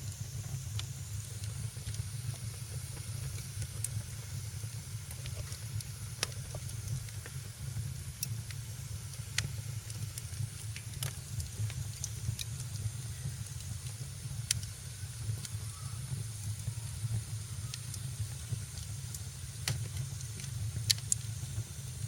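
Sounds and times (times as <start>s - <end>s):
fire crackles and pops: 0.0s - 22.0s
wood fire rumble and hiss: 0.0s - 22.0s.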